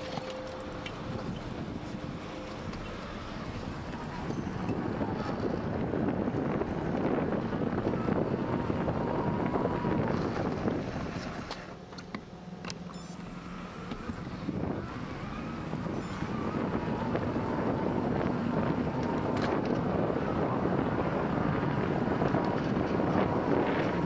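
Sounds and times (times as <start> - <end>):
wind rushing over microphone: 0.0 - 11.5, 13.5 - 24.0
bike tyres rolling on asphalt: 0.0 - 11.8, 13.8 - 24.0.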